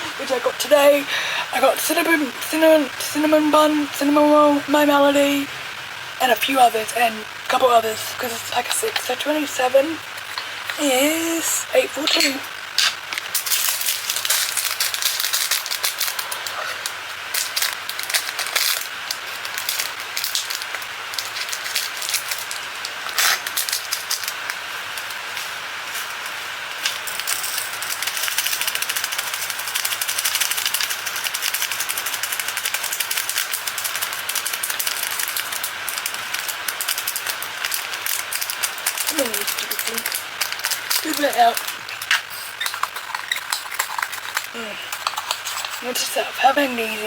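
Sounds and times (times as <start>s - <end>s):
rain falling steadily: 0.0s - 47.0s.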